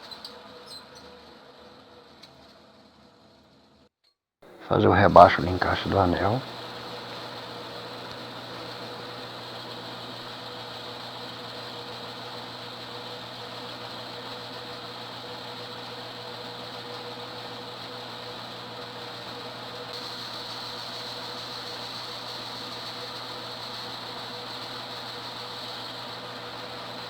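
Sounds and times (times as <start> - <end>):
lathe humming: 4.5 - 27.0
hiss: 4.6 - 27.0.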